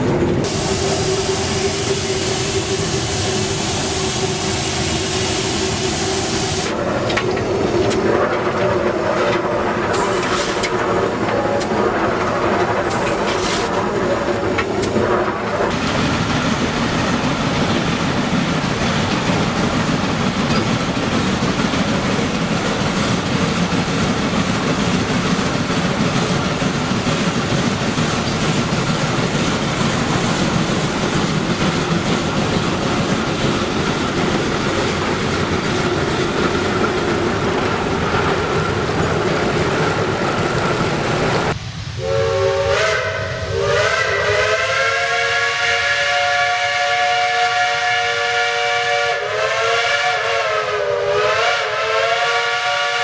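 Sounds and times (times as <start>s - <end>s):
steam locomotive running: 0.0s - 53.0s.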